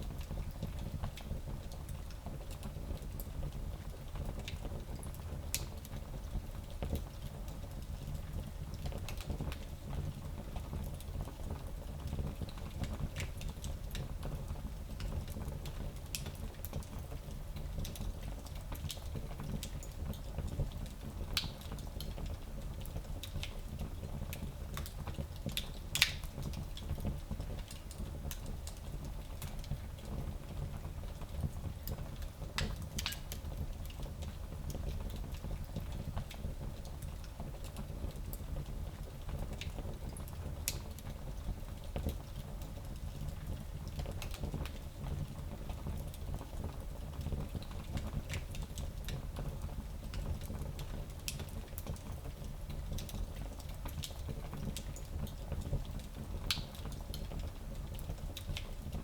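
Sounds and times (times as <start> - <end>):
fire rumbling in fireplace: 0.0 - 59.0
fire crackling and popping: 0.1 - 59.0.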